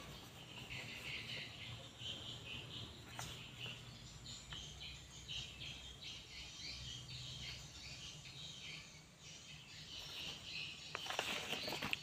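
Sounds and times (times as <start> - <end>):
low steady background hum: 0.0 - 12.0
small birds chirping: 0.0 - 12.0.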